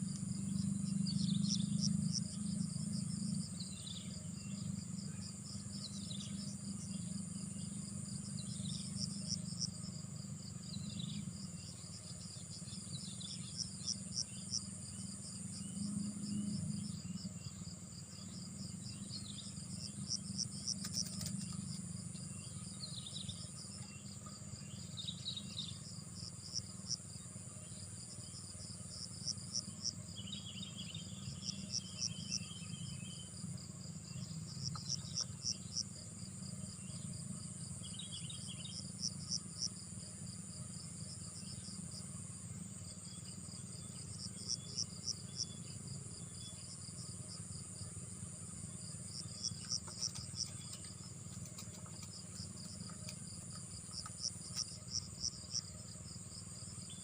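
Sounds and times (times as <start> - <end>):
insect rapid chirps: 0.0 - 57.0
insects buzzing: 0.0 - 57.0
low steady rumble: 0.0 - 57.0.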